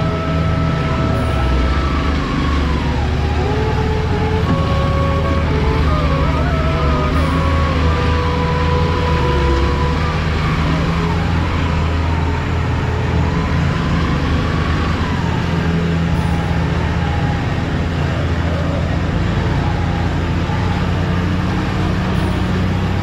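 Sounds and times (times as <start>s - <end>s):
truck engine: 0.0s - 23.0s
wind noise on microphone: 0.0s - 23.0s.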